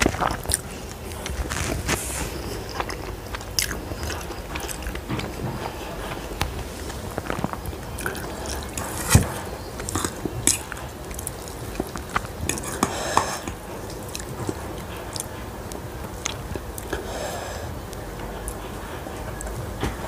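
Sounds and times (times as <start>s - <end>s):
chewing and slurping: 0.0s - 20.0s.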